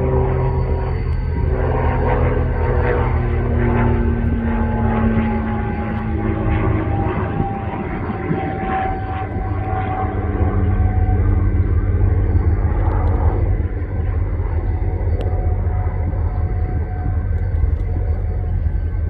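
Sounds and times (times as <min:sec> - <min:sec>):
held engine tones: 0:00.0 - 0:19.0.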